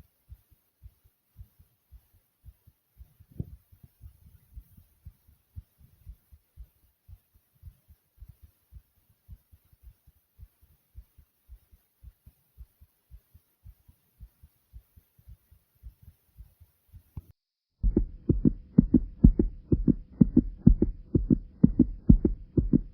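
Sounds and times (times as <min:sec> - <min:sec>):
faint steady hum: 0:00.0 - 0:22.9
human heartbeat thumps: 0:00.3 - 0:22.9.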